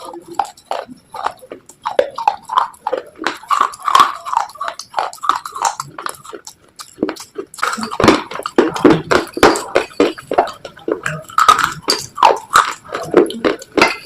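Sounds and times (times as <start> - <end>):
slate being chewed: 0.0 - 14.0.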